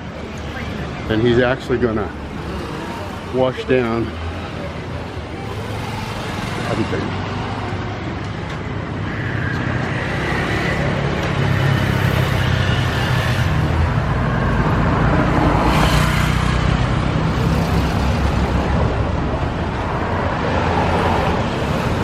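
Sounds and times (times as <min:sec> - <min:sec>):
vehicles passing: 0:00.0 - 0:22.0
vehicles running close by: 0:00.0 - 0:22.0.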